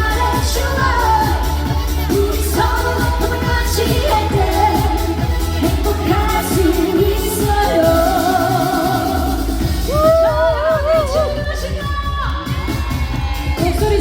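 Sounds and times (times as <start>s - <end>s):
person singing: 0.0s - 14.0s
pop backing track with bass beat: 0.0s - 14.0s.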